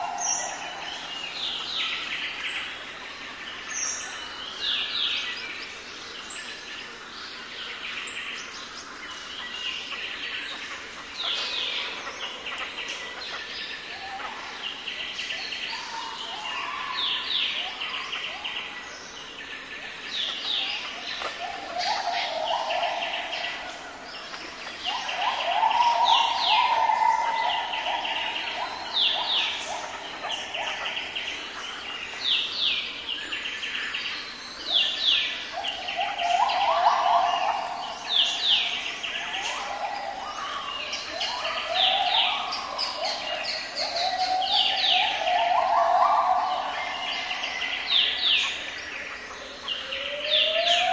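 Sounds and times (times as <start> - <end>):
birds chattering trills: 8.0 - 50.9.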